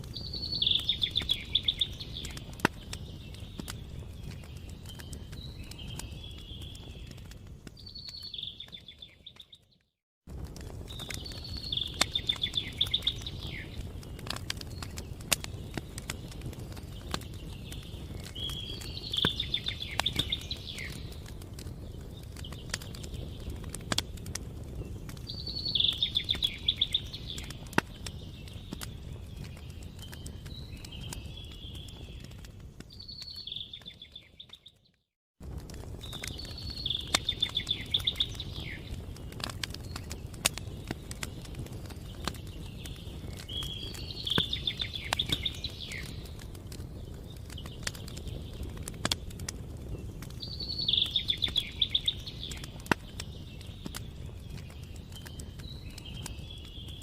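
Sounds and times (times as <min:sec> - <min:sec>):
small bird singing trills: 0:00.0 - 0:09.9, 0:10.8 - 0:35.0, 0:36.0 - 0:57.0
wood fire crackling: 0:00.0 - 0:57.0.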